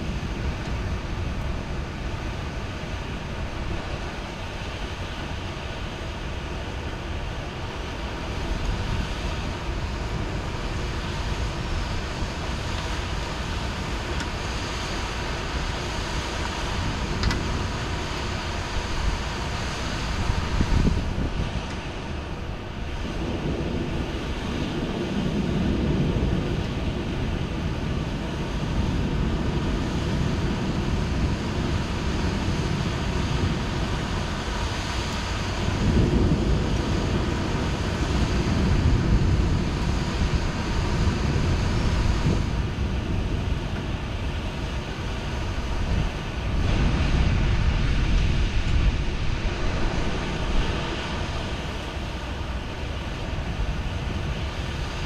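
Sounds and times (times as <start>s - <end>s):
heavy rain falling: 0.0s - 55.0s
low rumble: 7.8s - 55.0s.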